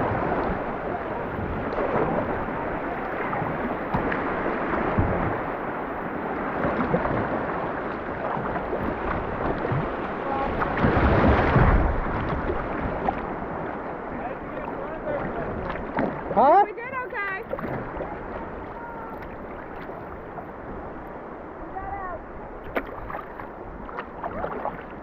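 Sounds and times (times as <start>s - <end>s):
river water rushing: 0.0s - 25.0s
wind buffeting microphone: 0.0s - 25.0s.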